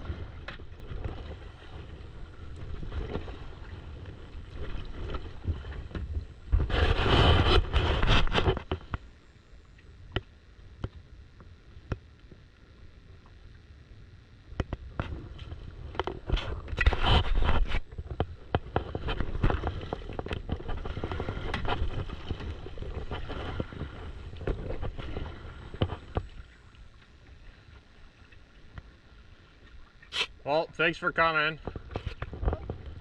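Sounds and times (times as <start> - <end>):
water splashing and sloshing: 0.0 - 12.6, 14.5 - 33.0.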